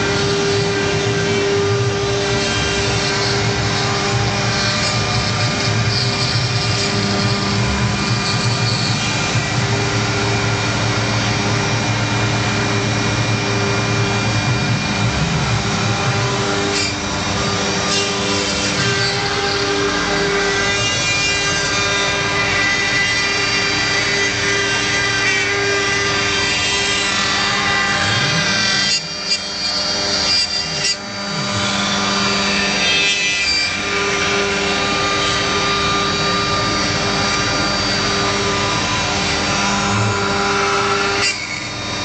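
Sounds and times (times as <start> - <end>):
router bit cutting wood: 0.0 - 42.0
router spindle whining: 0.0 - 42.0.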